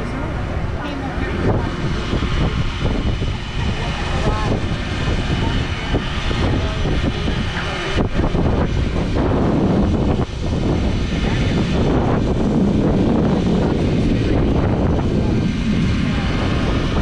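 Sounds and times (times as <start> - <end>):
loud jet noise: 0.0 - 17.0.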